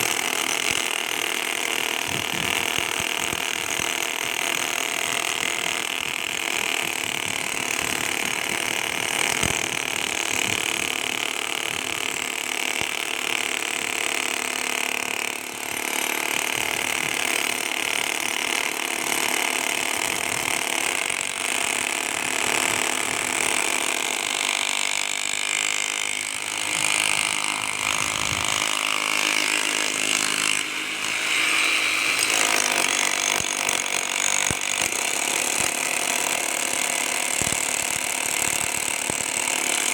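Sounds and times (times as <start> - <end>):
power tool grinding concrete: 0.0 - 39.9.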